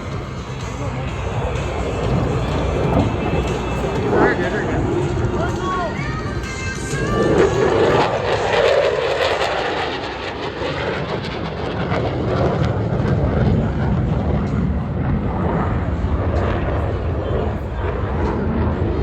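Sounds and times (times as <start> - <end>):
jet engine roaring: 0.0 - 19.0.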